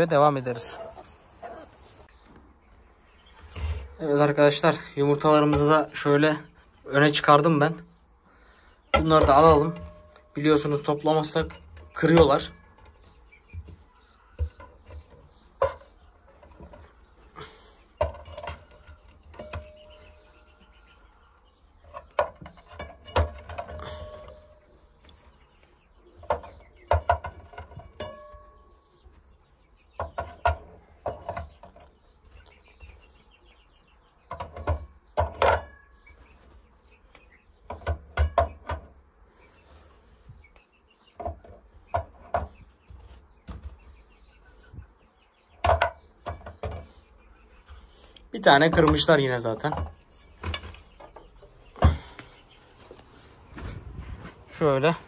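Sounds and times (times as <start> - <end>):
chicken calls: 0.0 - 9.7, 10.4 - 55.0.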